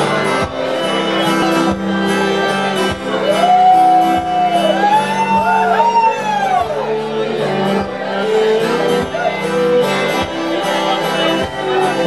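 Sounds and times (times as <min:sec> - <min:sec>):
acoustic guitar chords: 0:00.0 - 0:12.0
fiddle playing: 0:00.0 - 0:12.0.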